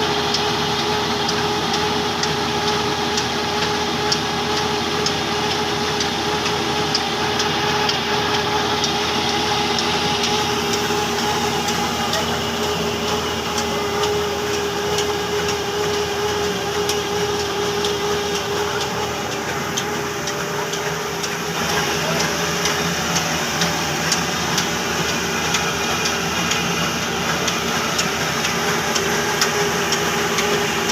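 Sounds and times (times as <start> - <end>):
diesel engine running mill: 0.0 - 30.9
regular mechanical ticking: 0.0 - 30.9.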